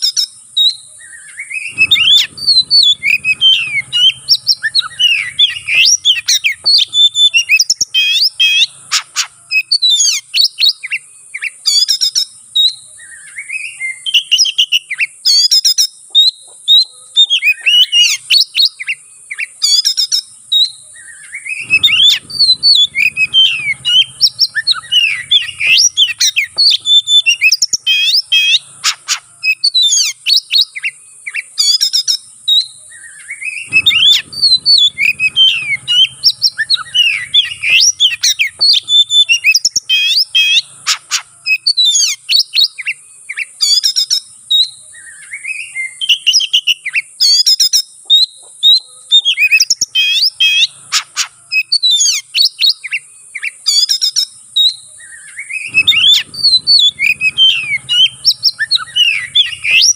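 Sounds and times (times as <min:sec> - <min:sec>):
songbird singing varied phrases: 0:00.0 - 0:59.9.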